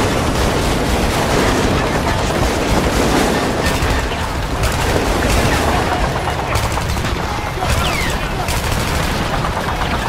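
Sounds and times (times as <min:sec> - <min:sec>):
heavy battle rumble: 0:00.0 - 0:10.0
sharp gunshots: 0:00.0 - 0:10.0.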